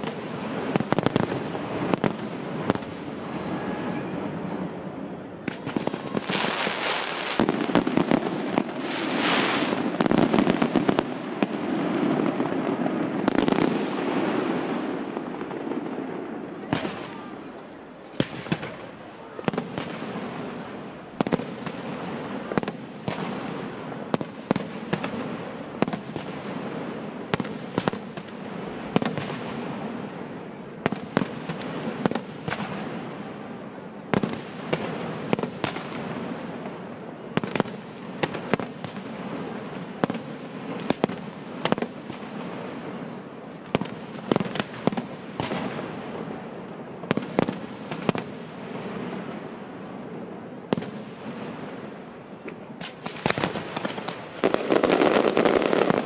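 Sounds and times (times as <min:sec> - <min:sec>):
fireworks bursting with bangs: 0:00.0 - 0:04.8, 0:05.4 - 0:56.0.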